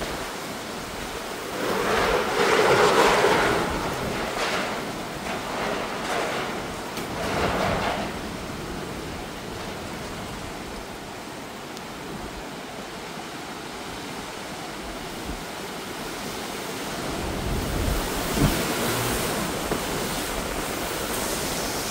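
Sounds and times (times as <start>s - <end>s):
heavy rain: 0.0s - 21.9s
hurricane wind: 0.0s - 21.9s.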